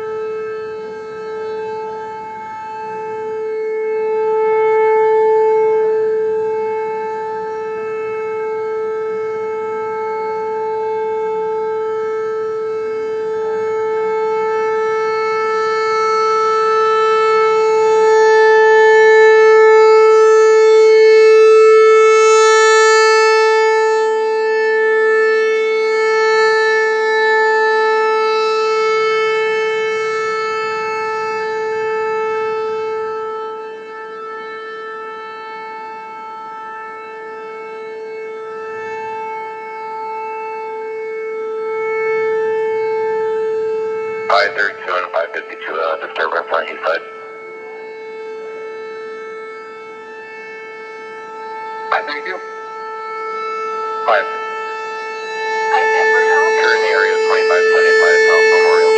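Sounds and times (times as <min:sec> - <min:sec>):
electronic warning siren: 0:00.0 - 0:58.9.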